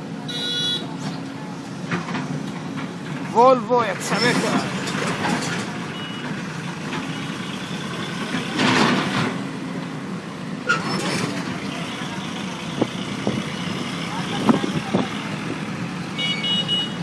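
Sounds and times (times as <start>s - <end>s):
excavator diesel machinery running: 0.0s - 17.0s.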